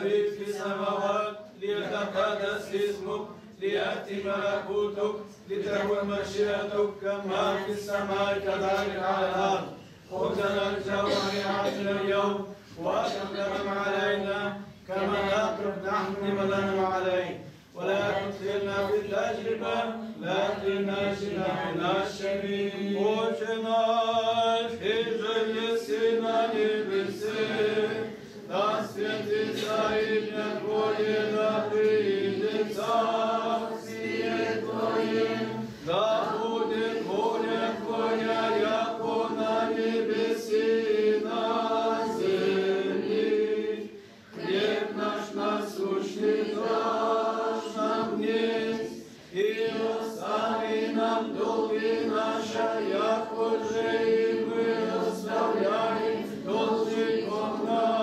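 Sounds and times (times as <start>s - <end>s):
male choir chanting a cappella: 0.0s - 58.0s.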